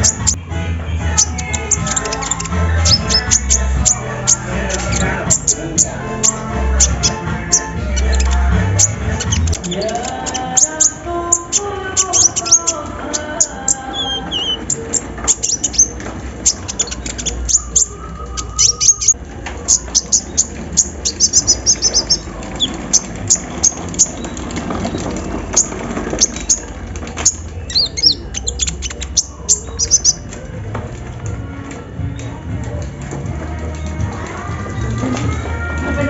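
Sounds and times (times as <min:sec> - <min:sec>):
bird chirping and trilling: 0:00.0 - 0:00.4, 0:01.1 - 0:30.3.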